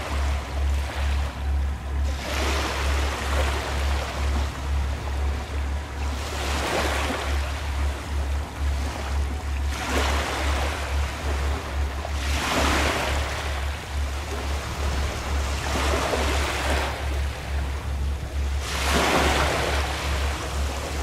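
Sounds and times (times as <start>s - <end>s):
low pulsing hum: 0.0s - 21.0s
sea waves washing ashore: 0.0s - 21.0s.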